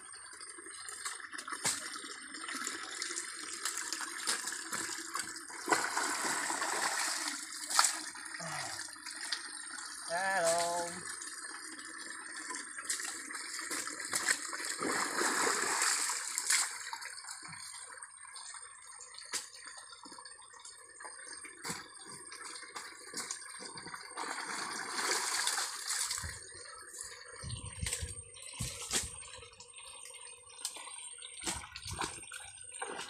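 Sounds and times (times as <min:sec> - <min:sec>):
muddy water sloshing and splashing: 0:00.9 - 0:09.5, 0:12.8 - 0:17.9, 0:19.3 - 0:33.0.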